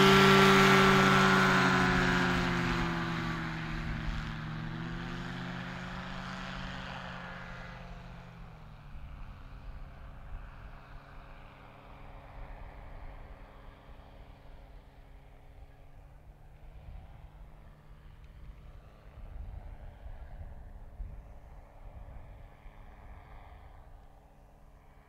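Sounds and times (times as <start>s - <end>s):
light aircraft engine and propeller: 0.0s - 25.0s.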